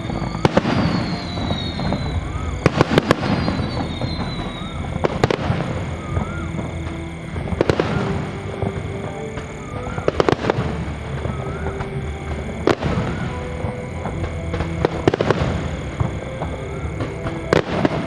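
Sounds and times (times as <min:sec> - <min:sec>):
background music: 0:00.0 - 0:18.0
fireworks bursting with sharp bangs: 0:00.0 - 0:18.0.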